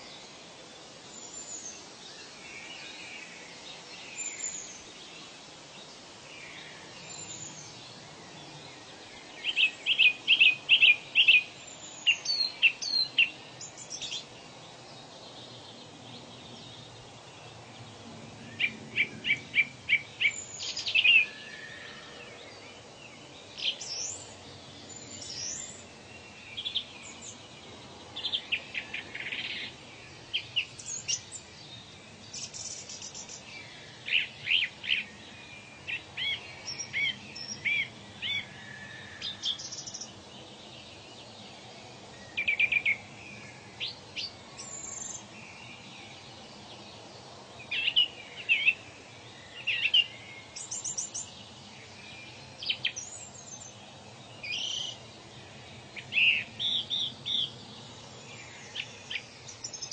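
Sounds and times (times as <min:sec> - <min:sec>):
background hiss: 0:00.0 - 0:59.9
birds singing: 0:00.0 - 0:59.9.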